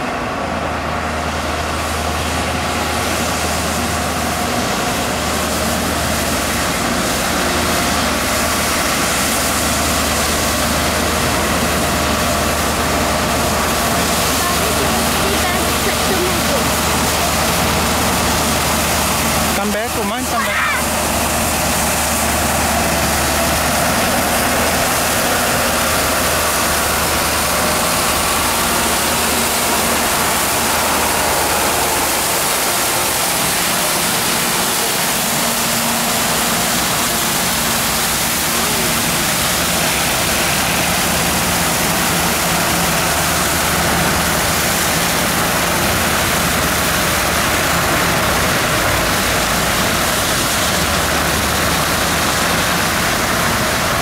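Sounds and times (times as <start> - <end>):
sweeper engine hum: 0.0 - 54.0
brooms hissing on pavement: 1.1 - 54.0.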